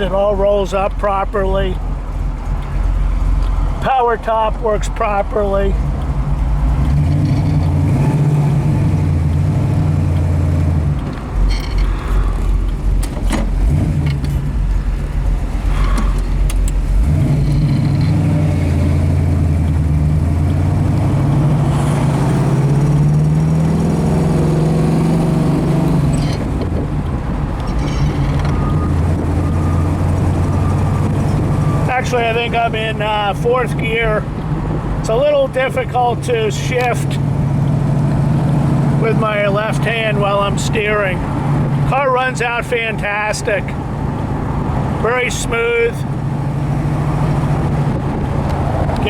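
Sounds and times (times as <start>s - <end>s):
car engine droning under load: 0.0s - 49.0s.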